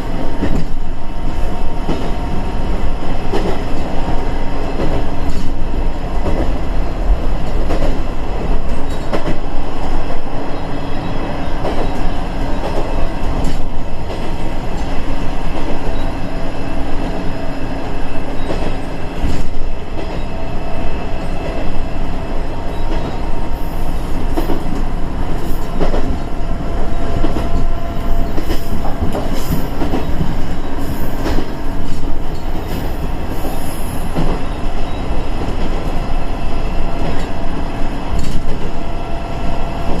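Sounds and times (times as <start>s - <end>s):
railcar engine and running noise: 0.0s - 40.0s.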